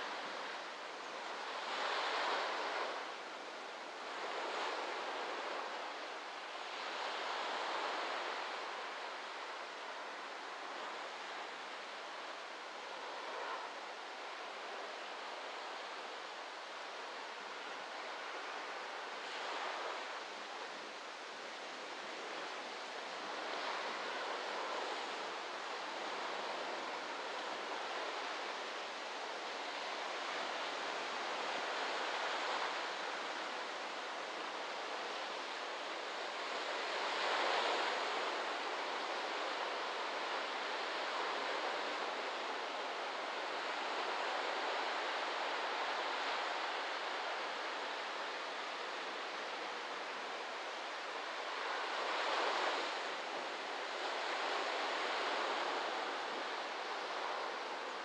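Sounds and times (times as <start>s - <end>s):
waves breaking on a beach: 0.0s - 58.0s.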